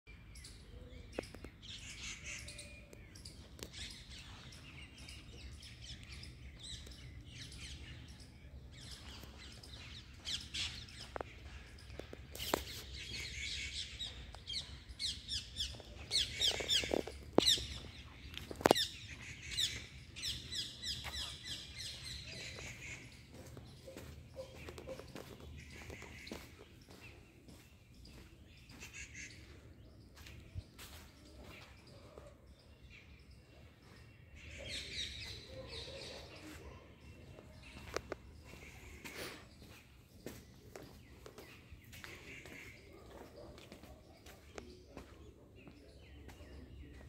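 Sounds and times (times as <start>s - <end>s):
small birds chirping: 0.1s - 47.0s.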